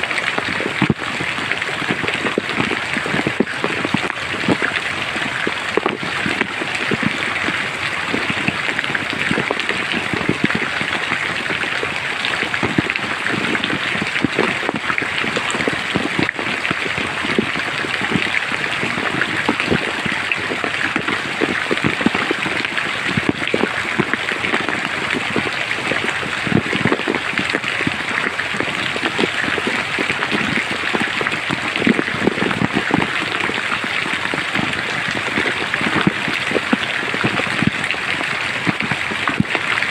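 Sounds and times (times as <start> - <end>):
close raindrops hitting: 0.0 - 39.9
rain hiss in forest: 0.0 - 39.9.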